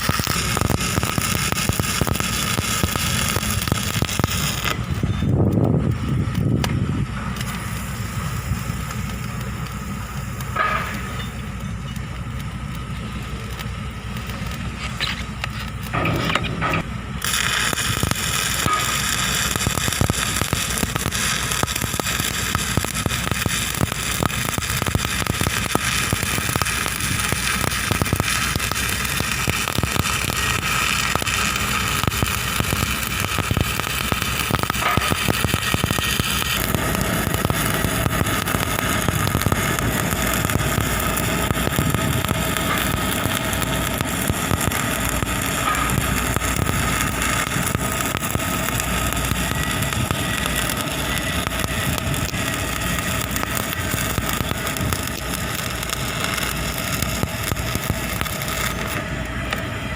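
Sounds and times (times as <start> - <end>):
steady hum: 0.0 - 59.9
welding arc crackling: 0.0 - 59.9.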